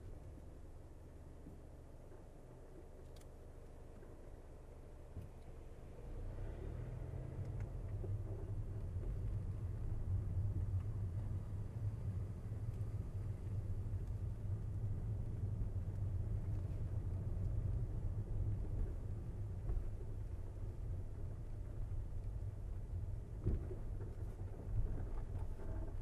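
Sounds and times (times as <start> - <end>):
car driving rumble: 0.0 - 26.0.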